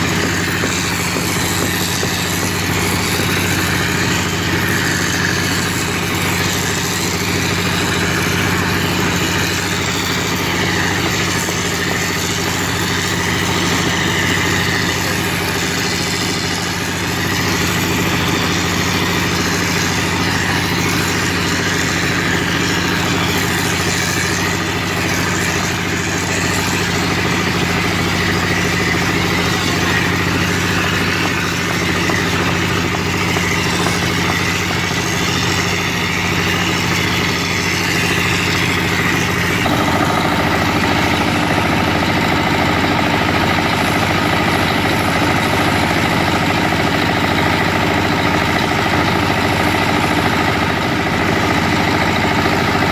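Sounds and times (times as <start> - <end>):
machine motor running: 0.0 - 52.9.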